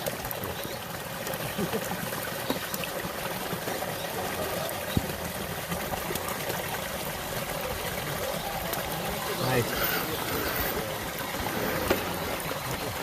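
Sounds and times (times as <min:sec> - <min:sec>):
trickling water: 0:00.0 - 0:13.0.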